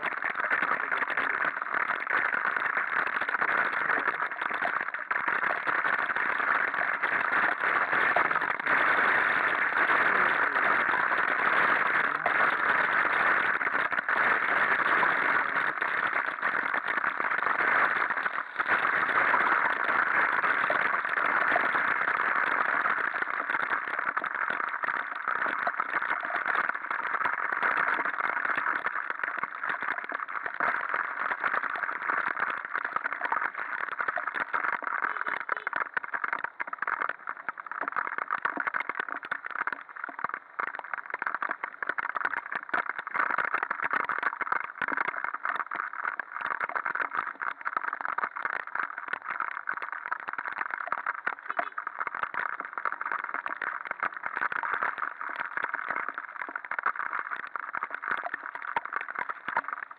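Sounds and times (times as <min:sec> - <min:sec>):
rain drops on camera: 0:00.0 - 0:59.9.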